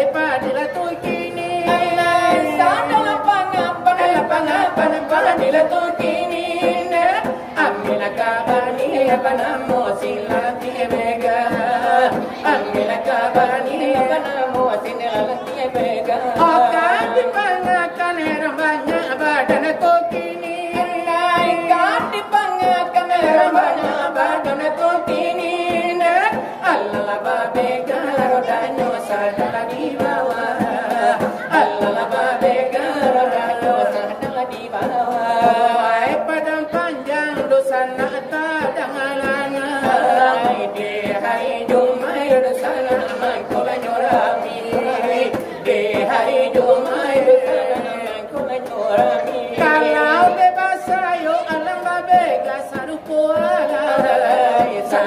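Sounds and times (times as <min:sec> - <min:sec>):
voices singing ornamented melody: 0:00.0 - 0:55.0.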